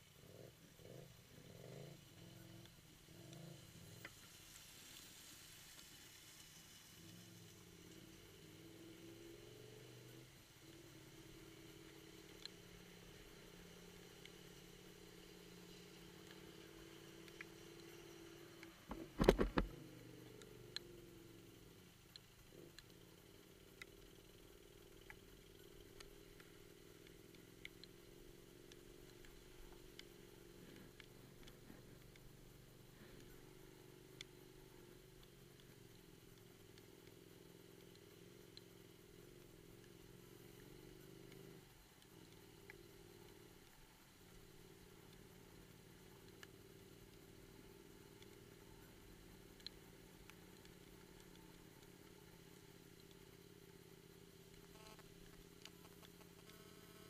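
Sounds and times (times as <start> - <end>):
motorcycle engine running: 8.0 - 57.0
faint clicks: 10.1 - 57.0.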